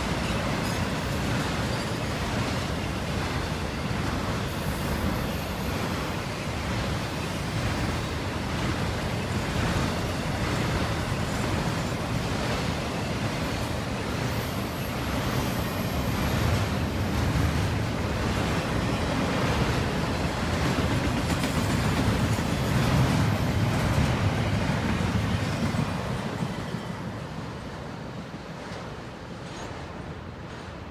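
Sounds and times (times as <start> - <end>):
freight train cars rolling: 0.0 - 30.9.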